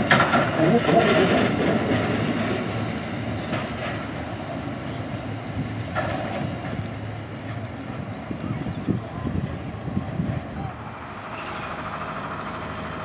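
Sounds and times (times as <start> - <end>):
train wagons rumbling on track: 0.0 - 13.0.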